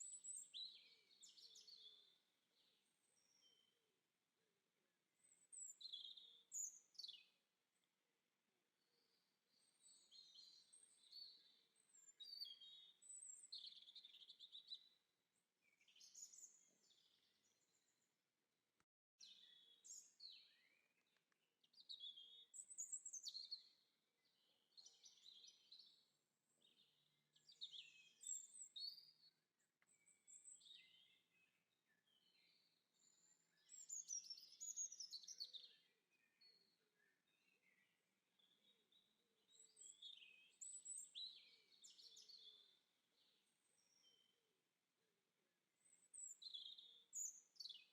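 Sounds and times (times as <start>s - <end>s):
faint songbird song: 0.0s - 47.9s.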